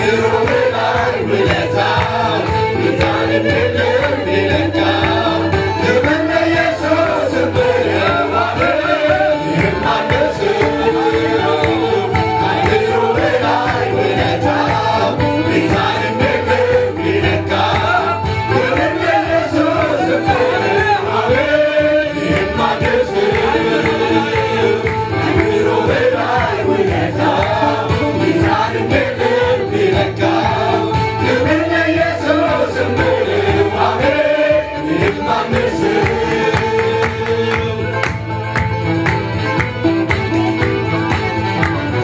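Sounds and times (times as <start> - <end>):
choir singing gospel song: 0.0 - 38.4
electric keyboard with bass: 0.0 - 42.0.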